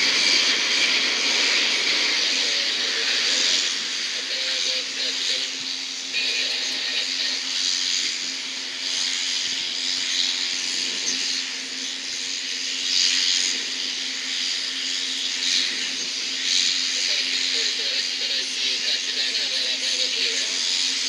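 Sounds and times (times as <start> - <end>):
jet engine whine and hiss: 0.0 - 21.0.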